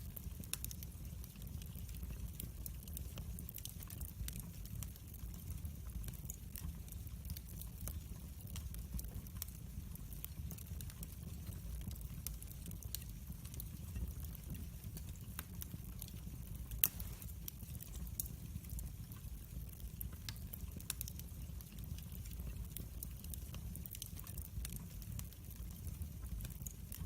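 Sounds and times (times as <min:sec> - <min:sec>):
fire crackling in fireplace: 0:00.0 - 0:27.0.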